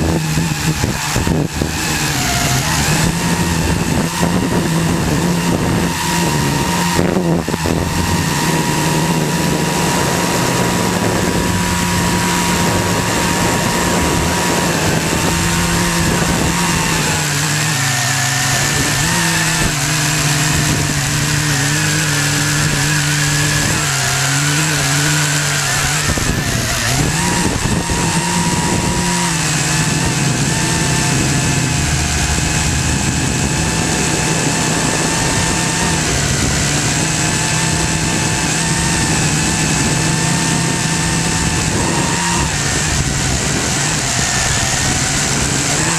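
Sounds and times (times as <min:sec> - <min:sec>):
drone propellers whirring: 0:00.0 - 0:45.9.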